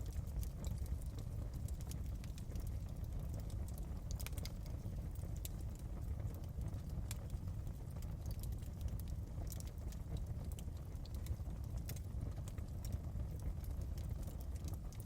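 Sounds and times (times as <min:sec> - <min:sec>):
logs popping and crackling: 0:00.0 - 0:15.0
low rumble of flames: 0:00.0 - 0:15.0.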